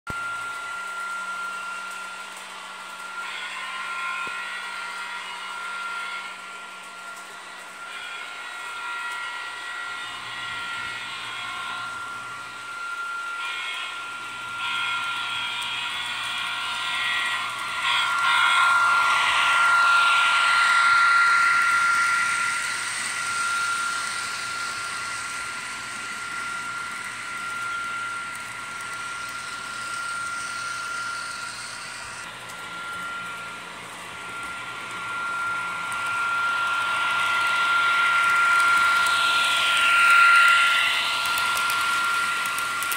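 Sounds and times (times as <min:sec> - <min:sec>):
model train motor whine: 0:00.1 - 0:42.9.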